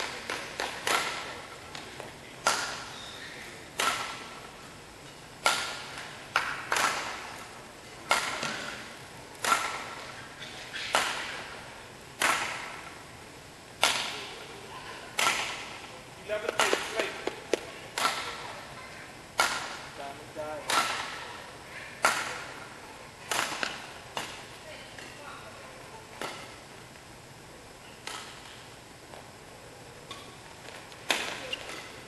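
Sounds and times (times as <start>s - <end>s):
rackets striking shuttlecock in hall: 0.0s - 13.0s, 13.7s - 25.3s, 26.0s - 26.8s, 27.8s - 29.2s, 30.0s - 32.0s.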